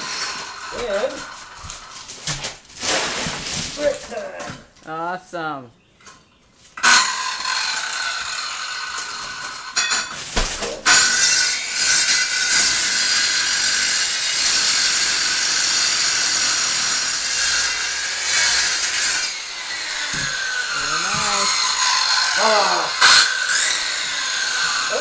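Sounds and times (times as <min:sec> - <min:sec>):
power saw cutting brick: 0:00.0 - 0:02.0, 0:06.8 - 0:25.0.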